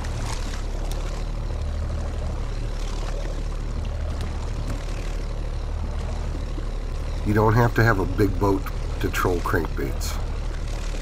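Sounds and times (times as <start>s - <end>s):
outboard motor running: 0.0s - 11.0s
water noise: 0.0s - 11.0s
wind: 0.0s - 11.0s.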